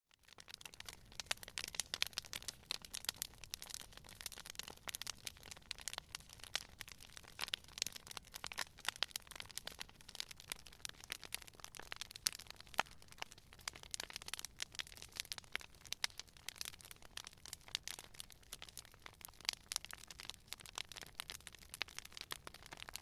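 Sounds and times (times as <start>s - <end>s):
wood crackling and popping: 0.1s - 23.0s
low rumble of flame: 0.2s - 23.0s.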